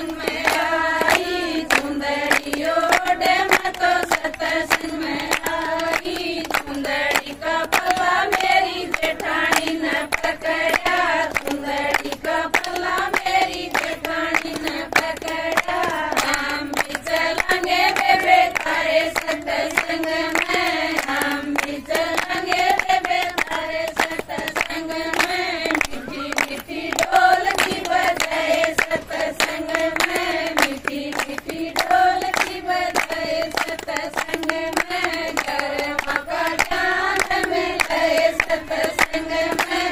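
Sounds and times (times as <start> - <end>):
rhythmic hand clapping: 0.0 - 39.9
women singing folk song: 0.0 - 39.9.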